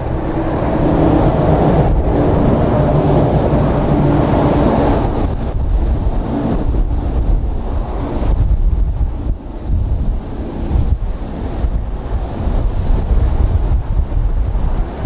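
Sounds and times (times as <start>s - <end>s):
steady low drone: 0.0s - 12.8s
wind buffeting microphone: 0.0s - 15.0s.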